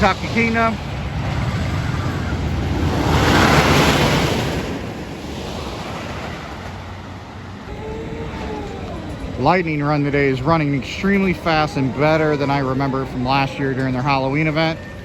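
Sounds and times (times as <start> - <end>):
roller coaster rushing past: 0.0 - 15.0.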